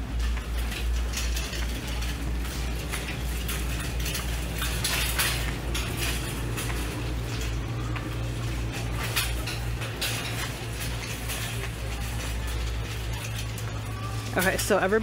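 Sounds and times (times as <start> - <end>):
shopping cart rattling: 0.0 - 15.0
steady low hum: 0.0 - 15.0.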